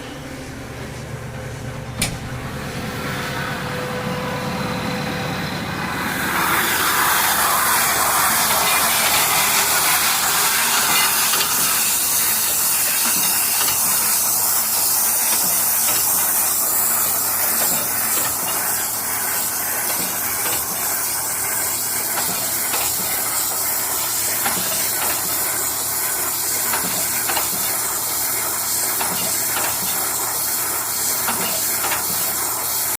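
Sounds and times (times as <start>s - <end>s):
baler machinery hissing rush: 3.0s - 33.0s.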